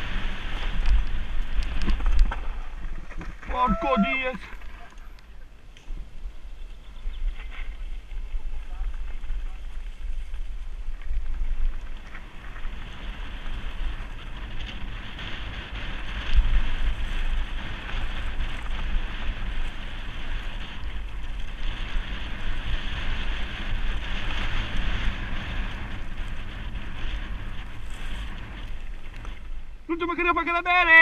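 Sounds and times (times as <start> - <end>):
tyres rolling over dirt trail: 0.0 - 31.0
wind rushing over microphone: 0.0 - 31.0.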